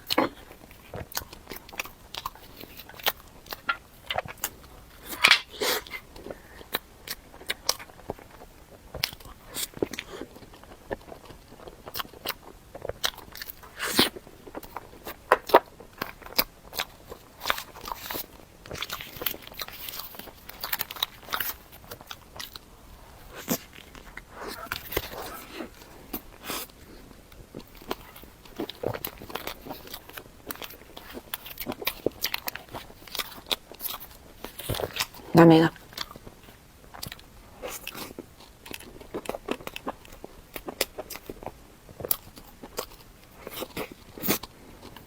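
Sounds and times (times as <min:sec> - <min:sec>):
close-miked chewing: 0:00.0 - 0:45.0
food crunching: 0:00.0 - 0:45.0.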